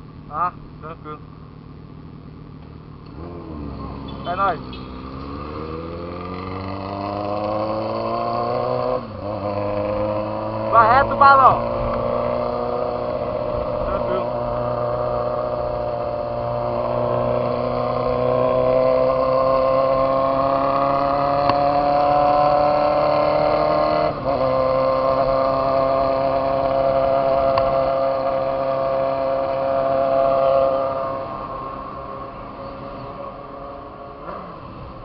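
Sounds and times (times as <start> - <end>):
motorcycle engine accelerating: 2.9 - 35.0.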